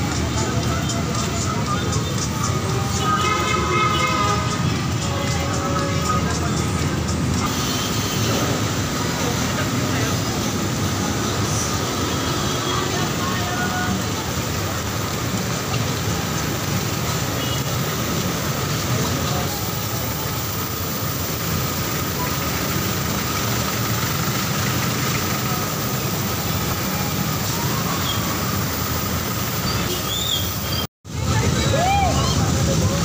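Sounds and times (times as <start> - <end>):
bus and traffic engines: 0.0 - 33.0
heavy rain on street: 0.0 - 33.0.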